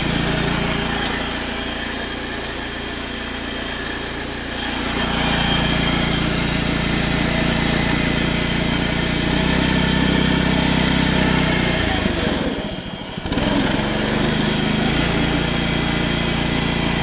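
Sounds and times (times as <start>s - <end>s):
small tractor engine running: 0.0s - 17.0s.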